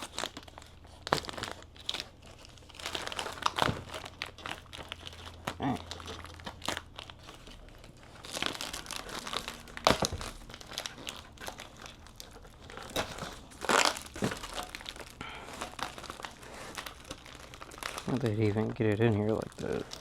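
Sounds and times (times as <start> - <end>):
plastic crinkling and rustling: 0.0 - 20.0.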